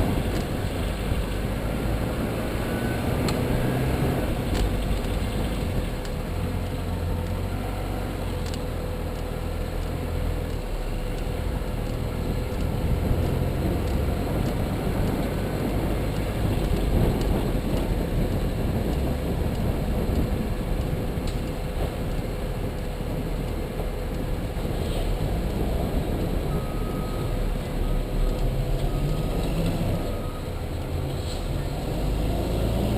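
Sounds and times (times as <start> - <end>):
car road and engine noise: 0.0 - 32.9.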